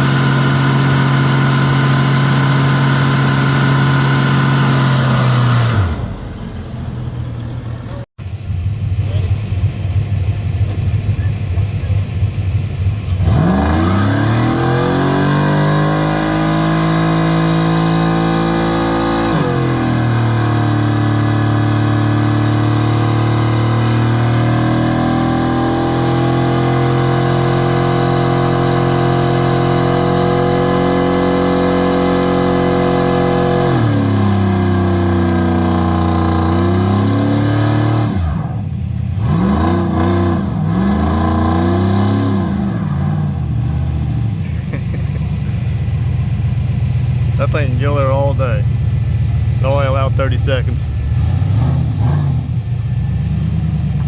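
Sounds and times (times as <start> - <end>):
truck engine revving: 0.0 - 8.1, 12.8 - 54.0.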